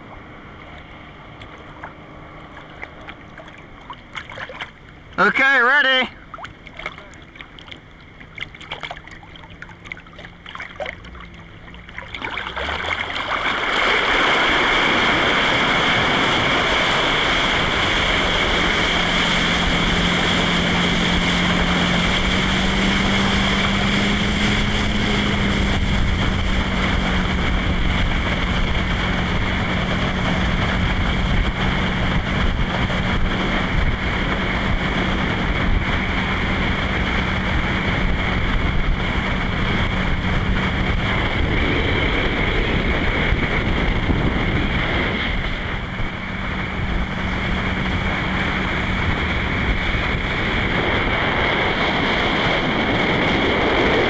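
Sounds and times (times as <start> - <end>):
rushing water: 0.0 - 52.8
boat engine drone: 0.0 - 54.0
wind on microphone: 5.9 - 54.0.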